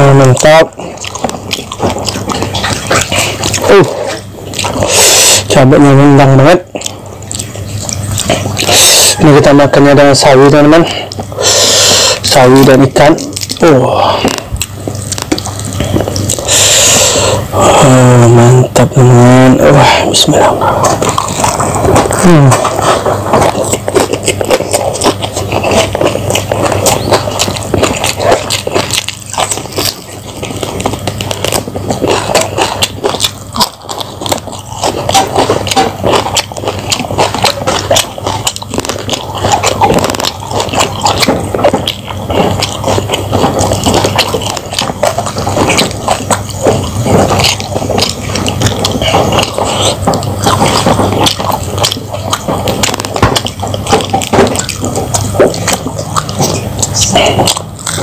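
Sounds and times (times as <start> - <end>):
lip-smacking: 0.0 - 58.0
wet chewing and crunching: 0.0 - 58.0.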